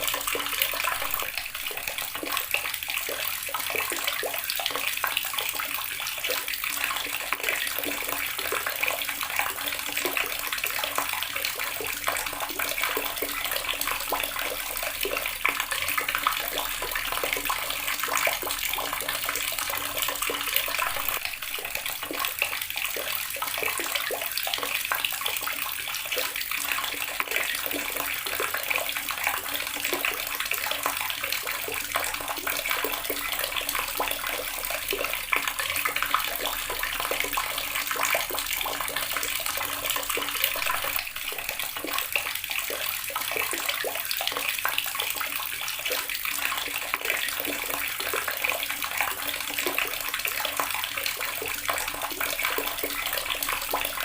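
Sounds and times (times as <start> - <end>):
water splashing from a tap: 0.0 - 54.0.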